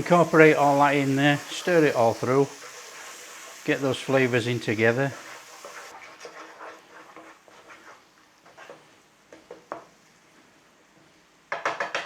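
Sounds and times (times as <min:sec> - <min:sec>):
spoon stirring paste in pan: 0:00.0 - 0:10.0.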